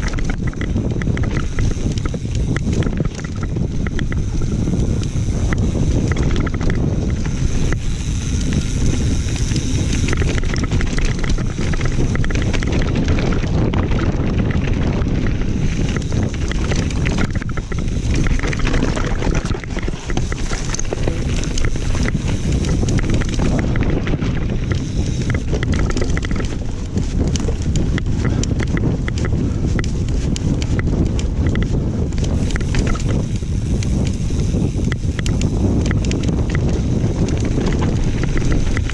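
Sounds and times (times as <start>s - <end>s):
bike rattling and clicking: 0.0s - 38.9s
tyres rumbling on stones: 0.0s - 38.9s
wind buffeting microphone: 0.0s - 38.9s.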